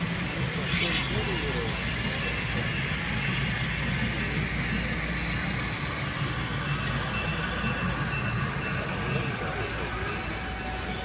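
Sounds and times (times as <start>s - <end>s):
exhibition hall noise: 0.0s - 11.0s
model trains rolling: 0.0s - 11.0s.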